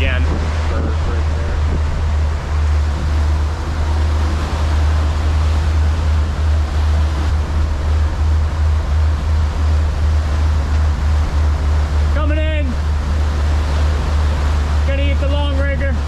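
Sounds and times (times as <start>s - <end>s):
boat engine drone: 0.0s - 16.0s
rushing water: 0.0s - 16.0s
wind: 0.0s - 16.0s.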